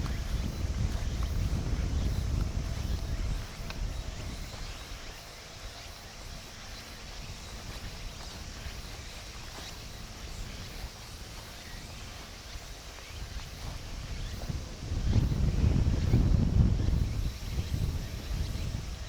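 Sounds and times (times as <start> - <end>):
faint outdoor hiss: 0.0 - 19.0
wind buffeting microphone: 0.0 - 19.0.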